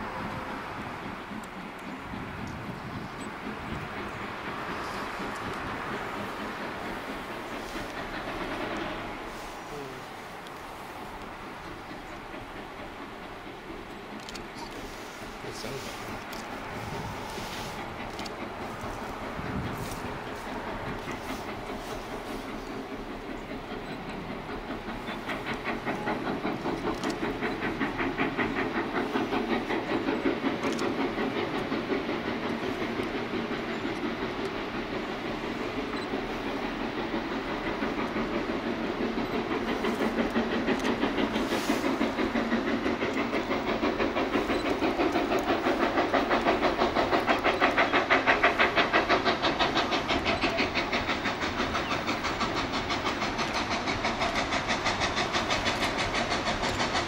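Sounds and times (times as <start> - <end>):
steam locomotive exhaust chuffs: 0.0 - 57.0.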